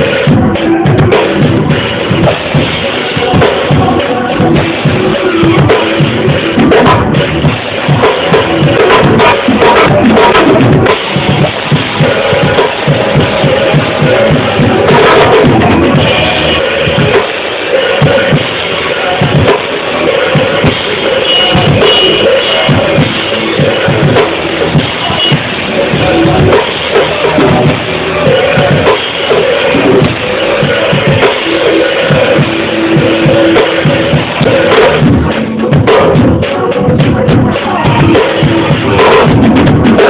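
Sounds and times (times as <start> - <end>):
drums beating steadily: 0.0 - 40.0
praise band music: 0.0 - 40.0.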